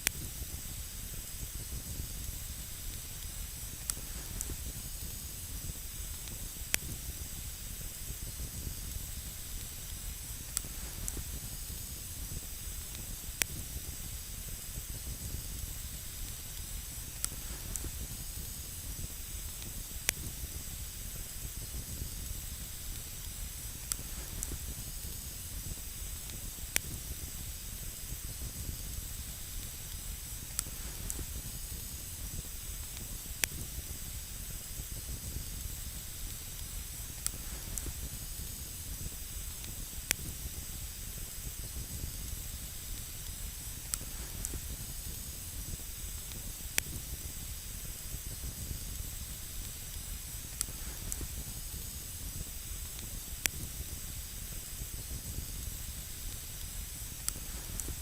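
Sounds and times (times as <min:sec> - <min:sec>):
burning wood crackles and pops: 0:00.0 - 0:58.0
campfire hissing: 0:00.0 - 0:58.0.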